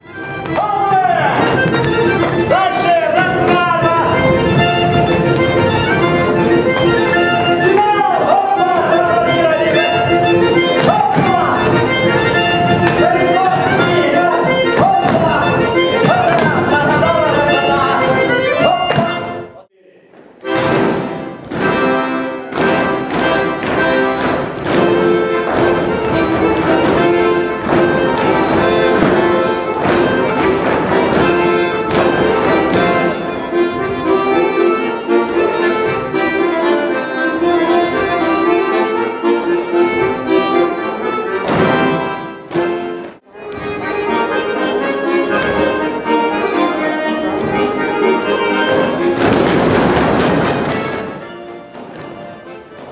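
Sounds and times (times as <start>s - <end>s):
accordion folk dance tune: 0.0s - 52.9s.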